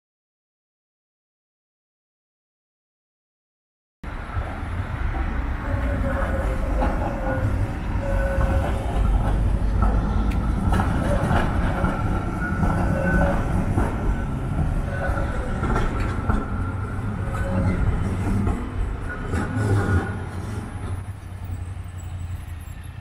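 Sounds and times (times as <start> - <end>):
tram wheels rumbling on rails: 4.0 - 23.0.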